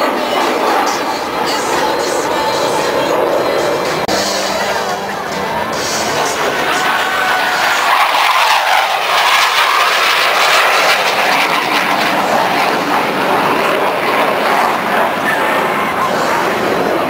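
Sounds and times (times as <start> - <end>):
military aircraft flying overhead: 0.0 - 17.0.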